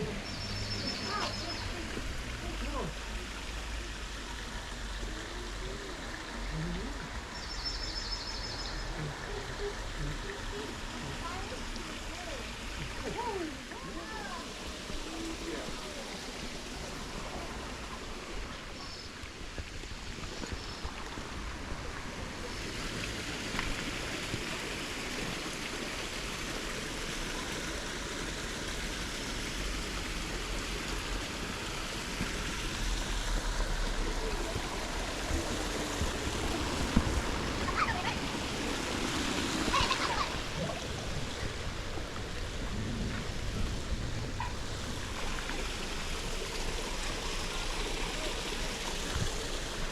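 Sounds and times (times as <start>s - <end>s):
stream running: 0.0s - 49.9s.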